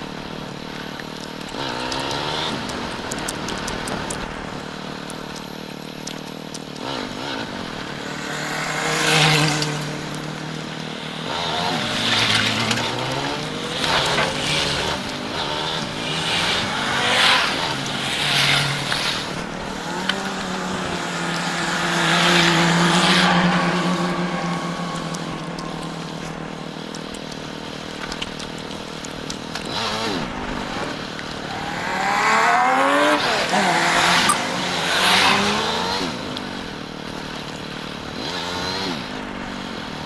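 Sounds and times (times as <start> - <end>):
motorcycle engine running: 0.0 - 40.0
road noise: 0.0 - 40.0
vehicles passing: 0.0 - 40.0.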